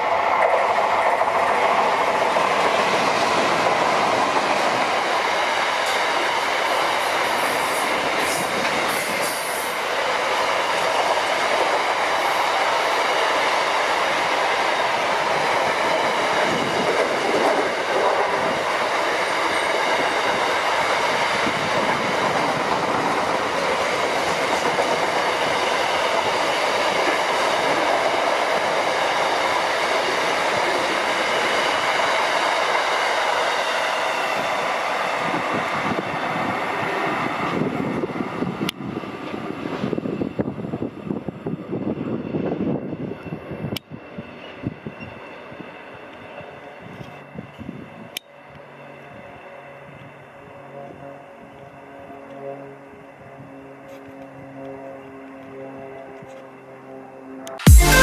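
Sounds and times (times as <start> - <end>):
freight train rumbling past: 0.0 - 53.5.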